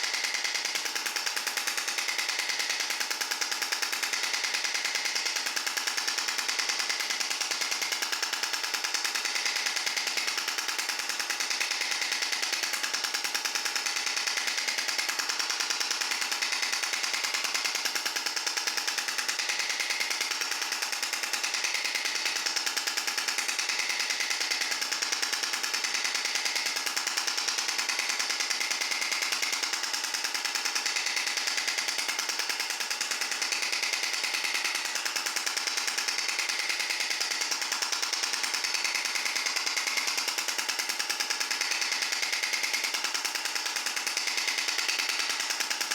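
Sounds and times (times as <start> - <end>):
medical device rapid sharp clicks: 0.0 - 45.9.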